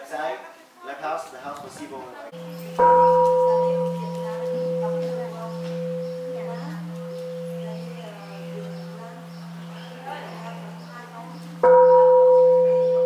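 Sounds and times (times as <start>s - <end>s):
bowl bell ringing: 2.4s - 13.0s.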